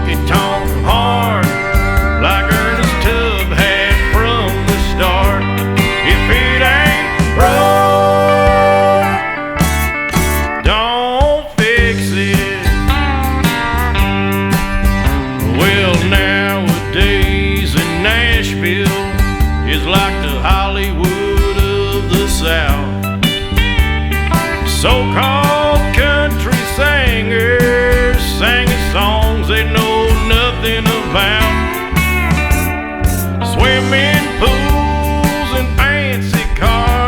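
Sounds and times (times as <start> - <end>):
country music with guitar and drums: 0.0 - 37.0.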